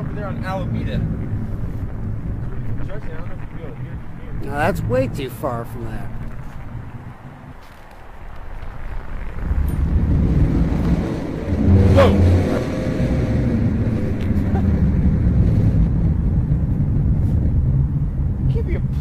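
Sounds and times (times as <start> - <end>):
loud low rumbling drone: 0.0 - 19.0.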